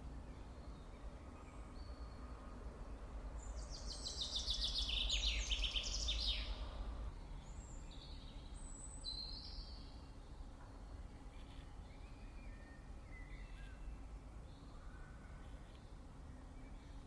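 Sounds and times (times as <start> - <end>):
low outdoor background rumble: 0.0 - 17.0
songbird singing: 0.0 - 17.0.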